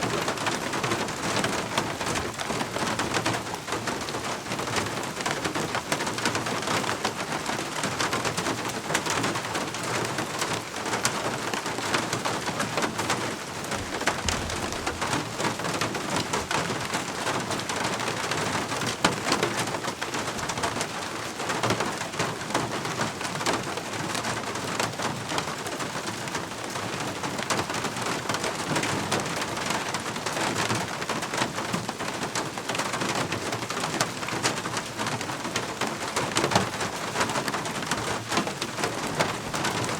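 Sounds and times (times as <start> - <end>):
raindrops striking: 0.0 - 39.9
steady rain hiss: 0.0 - 39.9.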